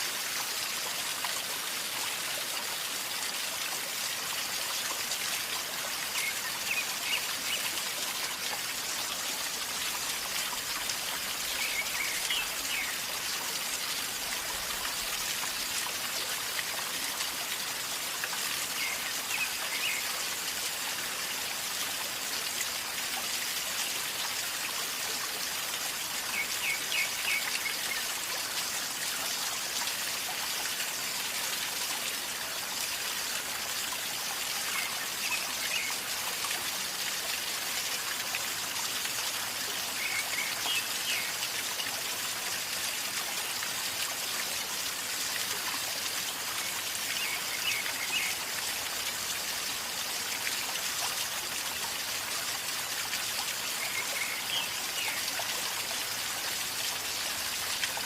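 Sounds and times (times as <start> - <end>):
river water gurgling: 0.0 - 58.0.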